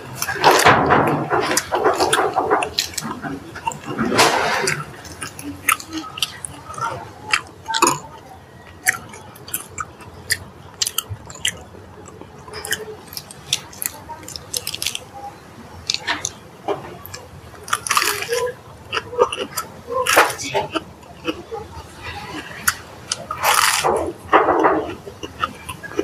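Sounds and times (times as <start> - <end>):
lettuce chewing and crunching: 0.0 - 26.0.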